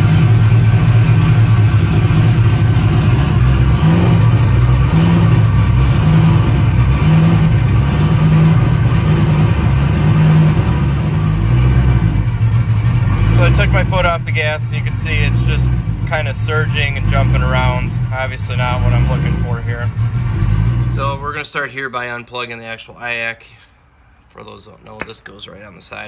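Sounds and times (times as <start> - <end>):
car engine fast idling: 0.0 - 21.4.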